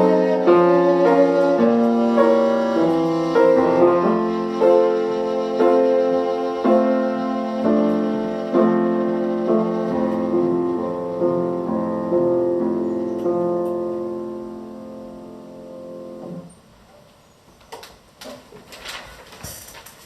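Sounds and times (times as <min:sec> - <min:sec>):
piano playing slow chords: 0:00.0 - 0:16.6.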